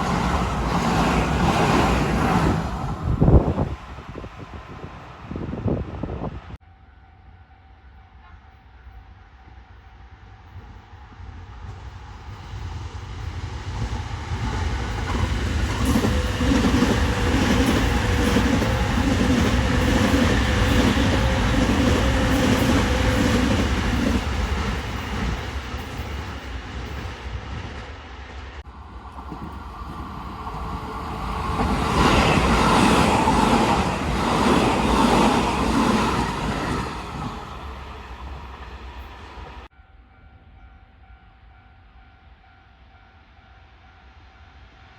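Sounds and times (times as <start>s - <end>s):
electric trains passing: 0.0s - 44.9s.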